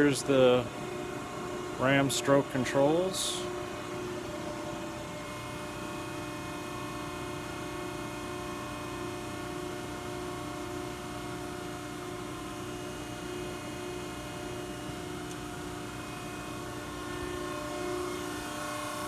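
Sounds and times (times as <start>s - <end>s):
machine hum with constant tones: 0.0s - 19.0s.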